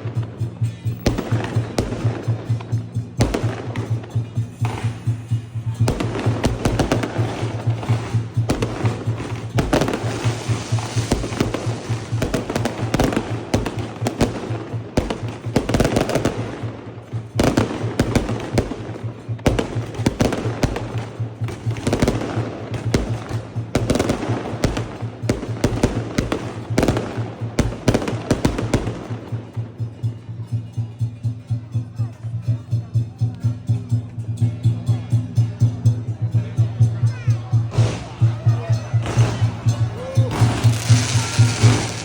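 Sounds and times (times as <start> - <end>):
fireworks bangs and crackles: 0.0 - 32.4, 33.2 - 42.0
music with steady beat: 0.0 - 42.0.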